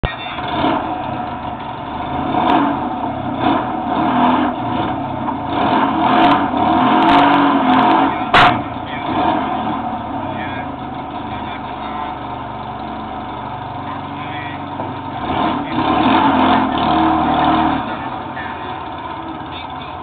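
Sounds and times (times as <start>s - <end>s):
racing car engine blipping: 0.0s - 20.0s.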